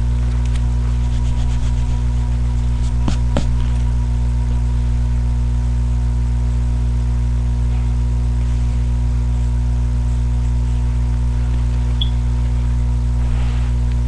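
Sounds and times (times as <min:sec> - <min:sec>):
buzzy electrical hum: 0:00.0 - 0:14.0.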